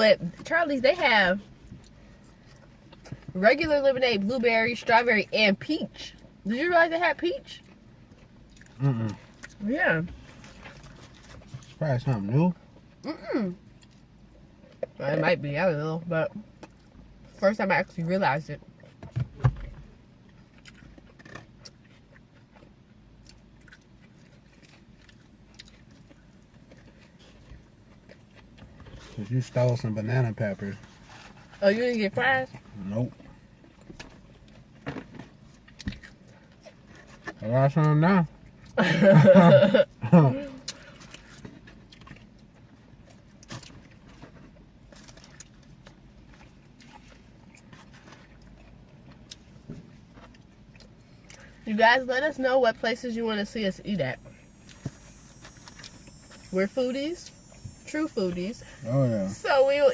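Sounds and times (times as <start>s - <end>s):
people chewing food: 0.1s - 3.8s, 7.5s - 15.4s, 16.3s - 51.7s, 52.9s - 59.9s.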